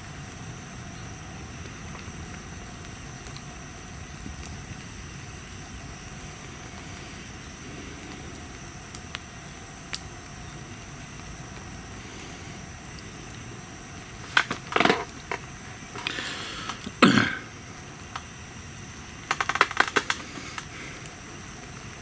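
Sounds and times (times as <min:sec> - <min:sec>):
bonfire crackling: 0:00.0 - 0:22.0
fire low rumble: 0:00.0 - 0:22.0.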